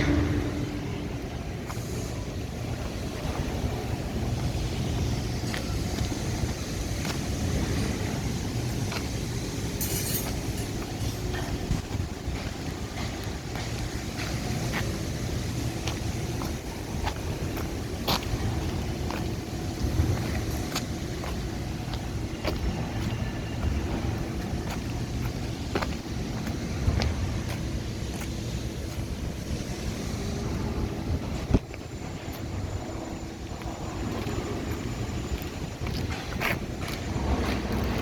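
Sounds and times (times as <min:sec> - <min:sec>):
low construction rumble: 0:00.0 - 0:38.0.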